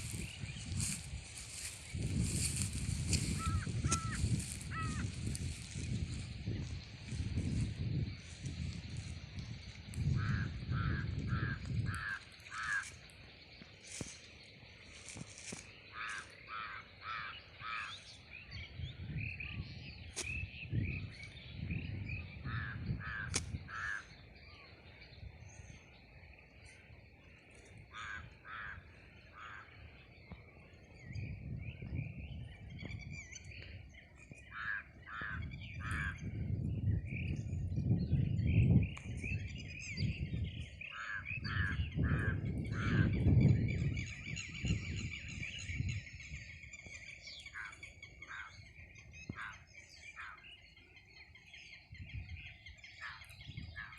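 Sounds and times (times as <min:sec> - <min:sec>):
harsh repeated bird calls: 0:00.0 - 0:25.7, 0:27.5 - 0:53.9
small birds chirping: 0:00.0 - 0:53.9.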